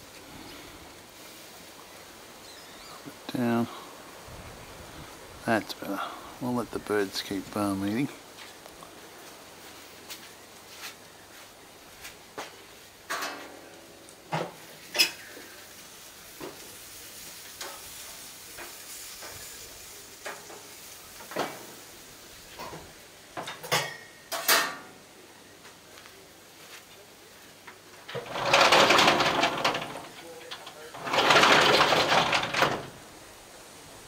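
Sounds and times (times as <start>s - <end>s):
faint steady hiss: 0.0s - 34.0s.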